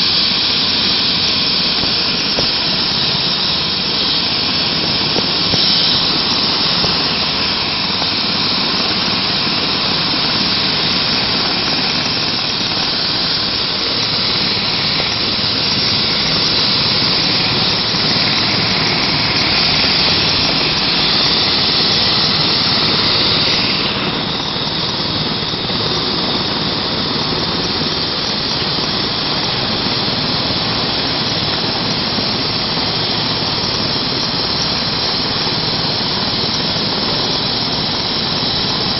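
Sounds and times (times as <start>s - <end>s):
helicopter turbine and rotor whine: 0.0s - 38.9s.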